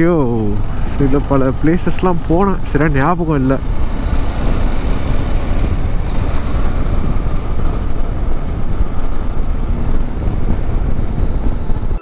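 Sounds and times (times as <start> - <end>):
motorcycle engine and road rumble: 0.0 - 12.0
wind rushing over microphone: 0.0 - 12.0.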